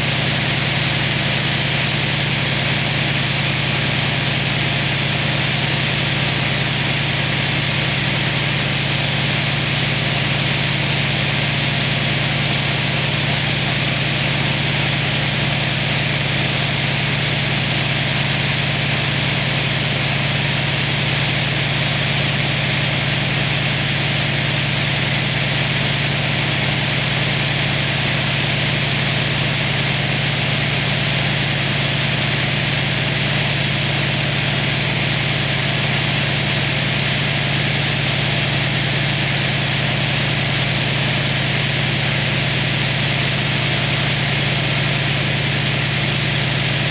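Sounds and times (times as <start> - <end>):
high whine: 0.0 - 46.9
locomotive engine idling: 0.0 - 46.9.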